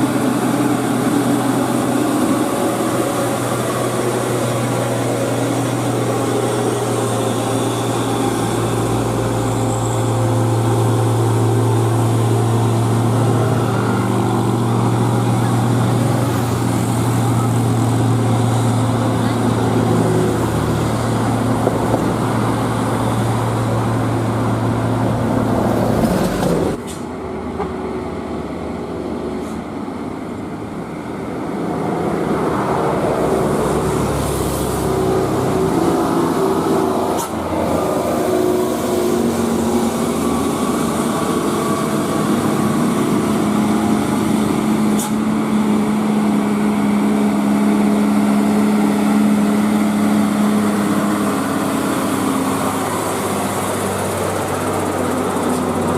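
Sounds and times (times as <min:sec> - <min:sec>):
heavy truck diesel engines climbing: 0:00.0 - 0:55.9.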